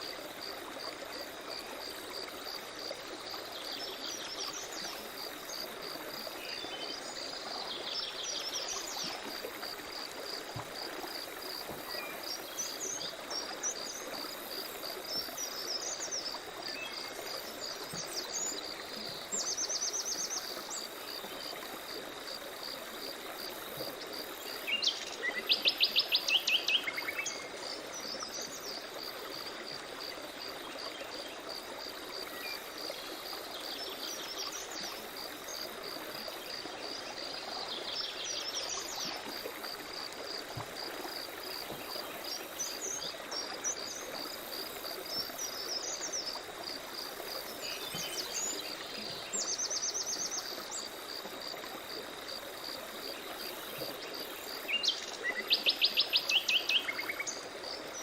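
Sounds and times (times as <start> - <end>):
insect chirping: 0.0 - 58.0
stream running: 0.0 - 58.0.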